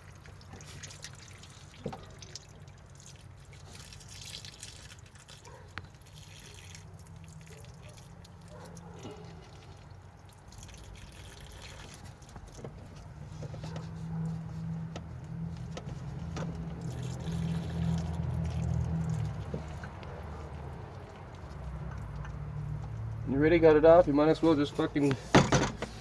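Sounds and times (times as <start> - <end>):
coolant dripping and trickling: 0.0 - 26.0.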